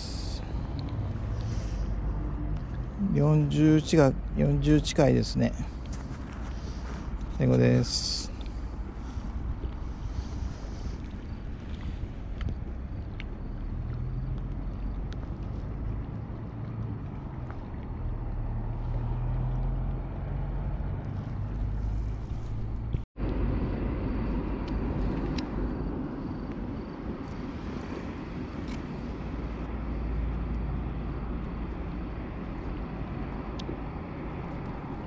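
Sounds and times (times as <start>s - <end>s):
outdoor rumble and hiss: 0.0s - 35.0s.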